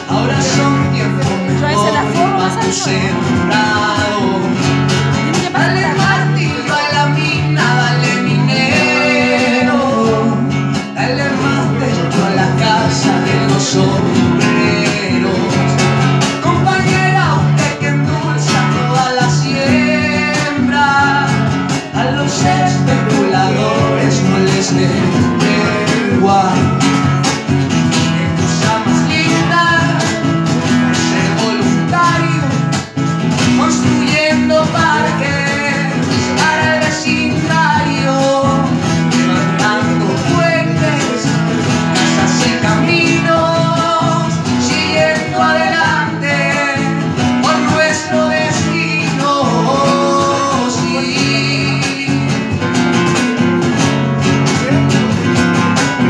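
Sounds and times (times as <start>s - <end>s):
person singing: 0.0s - 27.0s, 27.9s - 53.5s
acoustic guitar strumming: 0.0s - 56.0s
cajon beat: 0.0s - 56.0s.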